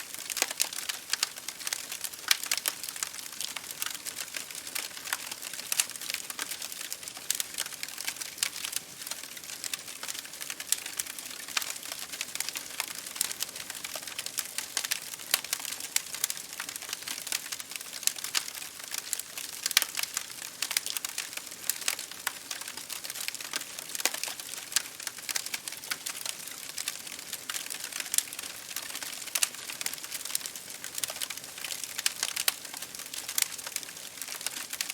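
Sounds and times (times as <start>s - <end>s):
bonfire crackling and popping: 0.0s - 34.9s.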